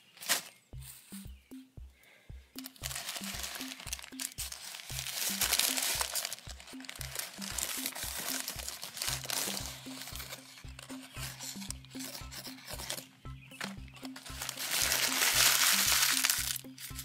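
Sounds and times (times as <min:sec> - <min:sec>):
background music with bass line: 0:00.6 - 0:17.0
continuous crinkling: 0:02.6 - 0:17.0.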